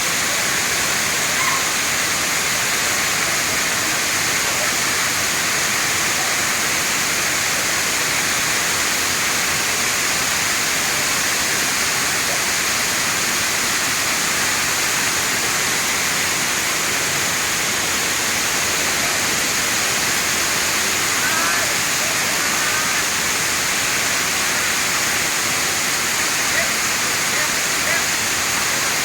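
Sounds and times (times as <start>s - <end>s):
waterfall water pouring: 0.0s - 29.0s.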